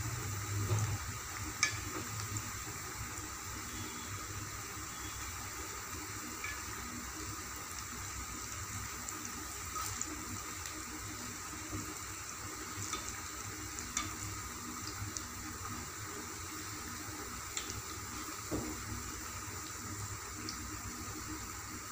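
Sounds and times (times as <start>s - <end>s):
fritters sizzling in hot oil: 0.0s - 21.9s.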